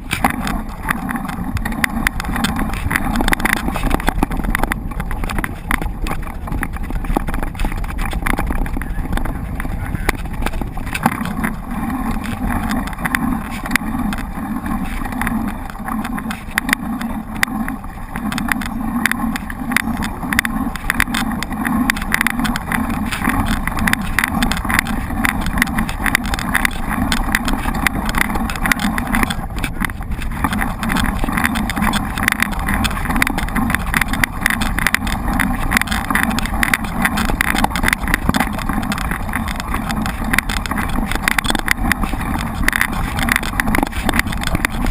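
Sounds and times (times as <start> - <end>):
bike clattering and rattling: 0.0 - 44.9
bike tyres rumbling on rough ground: 0.0 - 44.9.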